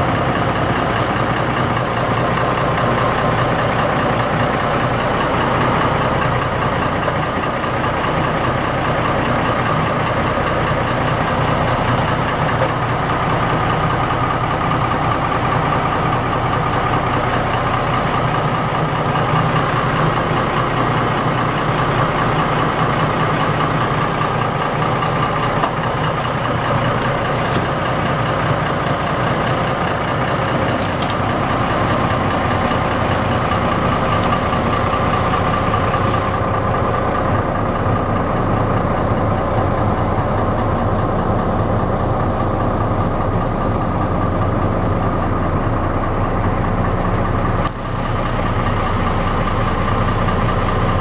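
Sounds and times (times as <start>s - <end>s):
boat engine idling: 0.0s - 51.0s.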